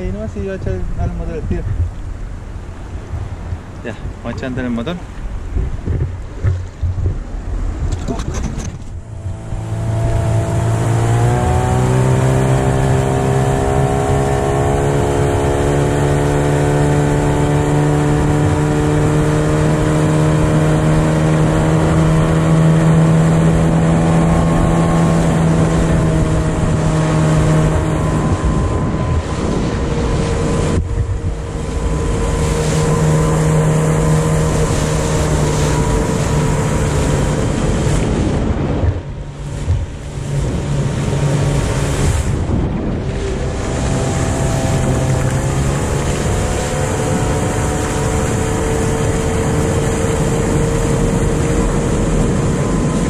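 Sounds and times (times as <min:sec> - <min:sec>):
outboard motor running: 0:01.7 - 0:53.0.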